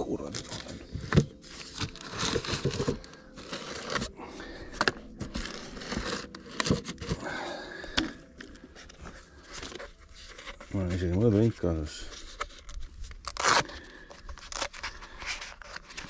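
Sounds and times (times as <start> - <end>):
plastic bottle crinkling: 0.0 - 16.0.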